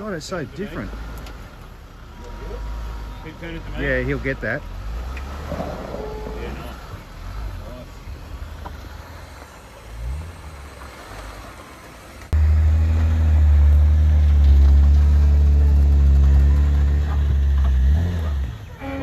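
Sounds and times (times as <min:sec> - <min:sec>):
off-road vehicle engine drone: 0:00.0 - 0:19.0.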